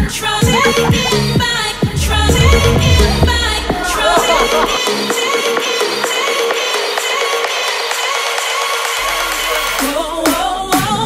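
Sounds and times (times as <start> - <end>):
pop music with singing: 0.0 - 11.0.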